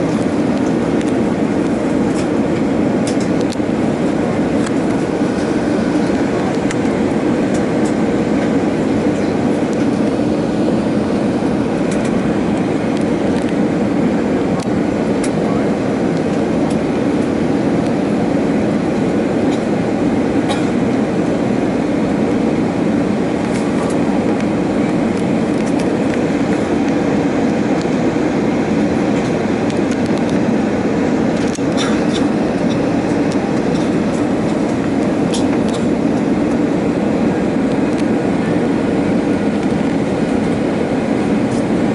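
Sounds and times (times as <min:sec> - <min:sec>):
jet cabin engine drone: 0:00.0 - 0:41.9.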